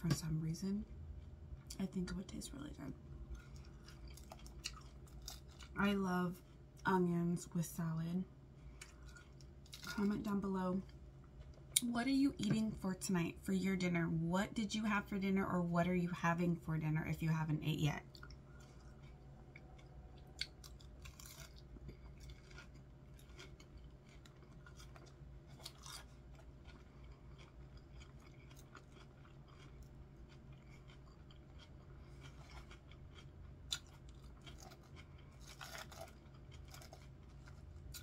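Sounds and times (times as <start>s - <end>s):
low steady hum: 0.0s - 38.0s
chewing and crunching salad: 0.2s - 8.0s, 8.6s - 11.9s, 17.2s - 38.0s.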